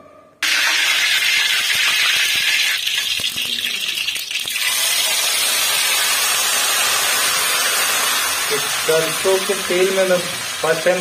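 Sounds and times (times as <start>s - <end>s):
oil and meat sizzling: 0.4s - 11.0s.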